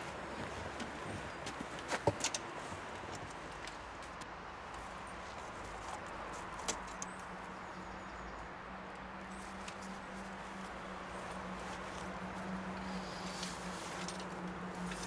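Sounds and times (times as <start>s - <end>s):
plants rustling and clicking: 0.0s - 7.3s, 9.3s - 15.0s.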